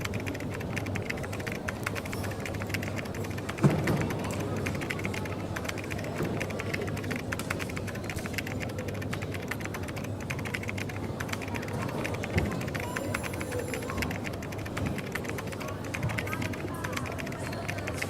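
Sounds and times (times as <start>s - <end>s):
background chatter: 0.0s - 18.0s
typing on computer keyboard: 0.0s - 18.0s.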